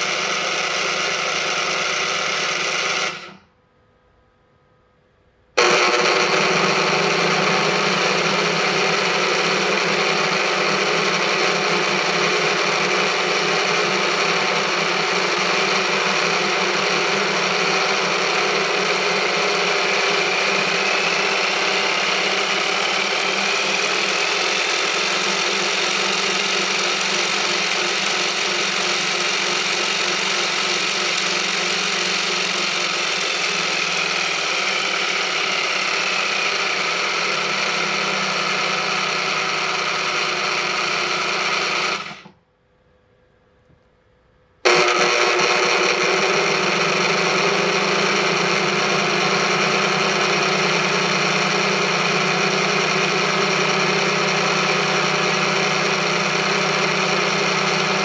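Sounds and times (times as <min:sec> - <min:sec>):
shaking table motor running: 0:00.0 - 0:03.4, 0:05.6 - 0:42.3, 0:44.7 - 0:58.0.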